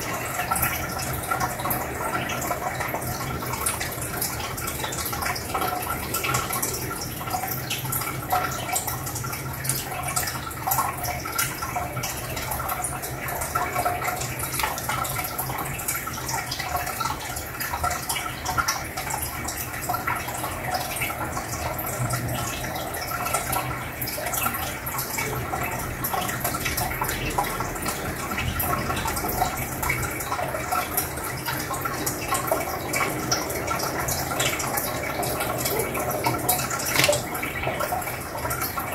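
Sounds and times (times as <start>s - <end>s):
filter bubbling: 0.0s - 38.9s.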